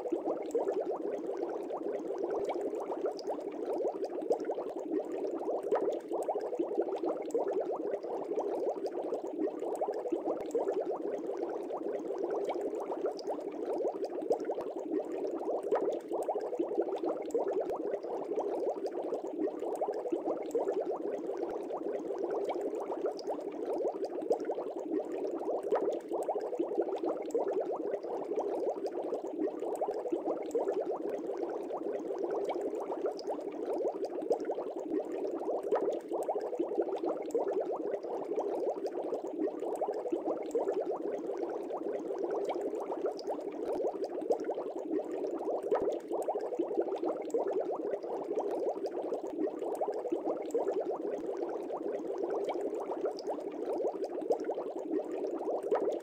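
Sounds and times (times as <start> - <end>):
bubbling water: 0.0 - 56.0.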